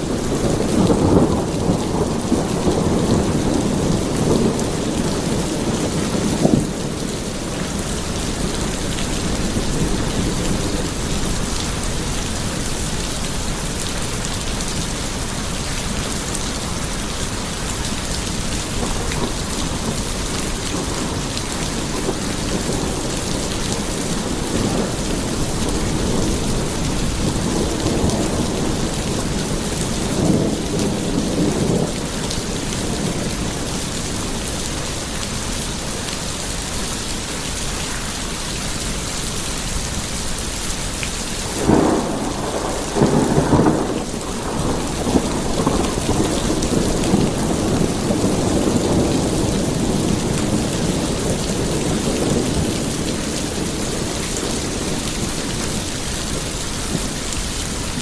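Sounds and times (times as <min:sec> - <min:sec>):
thunder rumbling: 0:00.0 - 0:36.1, 0:41.4 - 0:58.0
steady rain pouring: 0:00.0 - 0:58.0.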